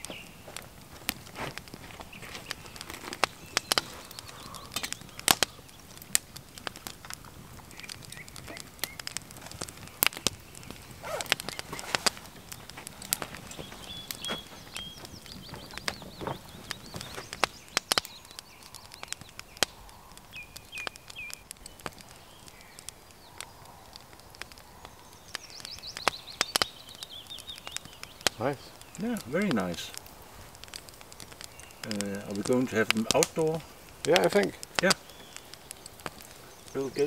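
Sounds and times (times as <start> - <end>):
campfire crackling: 0.0 - 37.0
small bird chirping: 2.0 - 6.1, 7.7 - 23.8, 24.7 - 30.0, 31.3 - 37.0.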